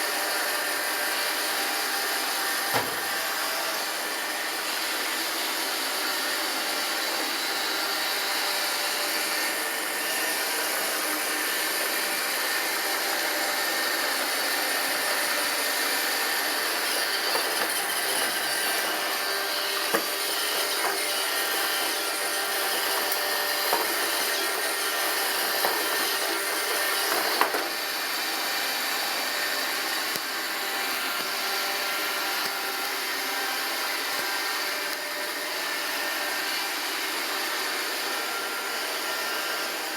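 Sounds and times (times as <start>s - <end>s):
robot vacuum whirring: 0.1s - 39.9s.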